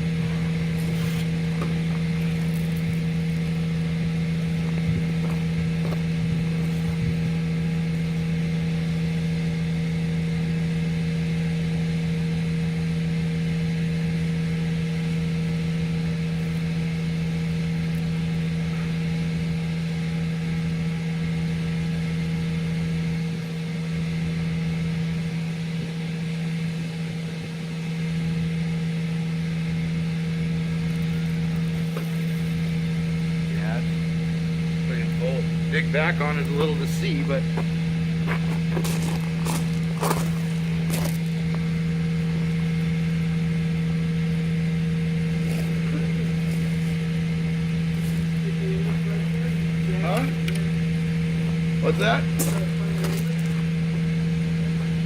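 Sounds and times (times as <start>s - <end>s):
truck engine and vacuum pump humming: 0.0s - 55.0s.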